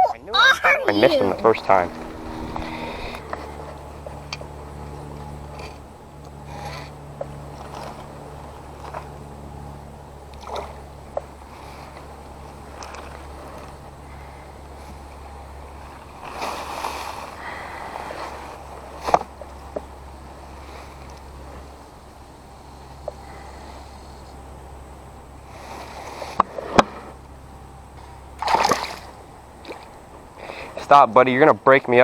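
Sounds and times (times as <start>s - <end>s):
steady low rumble: 0.0s - 32.0s
water sloshing and splashing: 0.9s - 32.0s.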